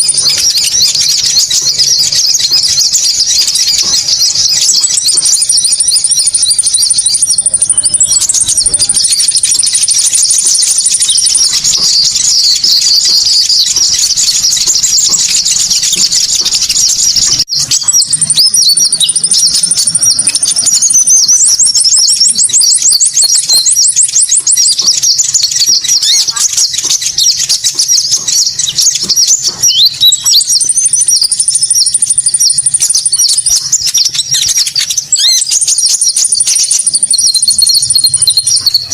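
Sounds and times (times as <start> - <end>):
high-pitched bird twittering: 0.0 - 38.9
thin bird trills: 0.0 - 38.9.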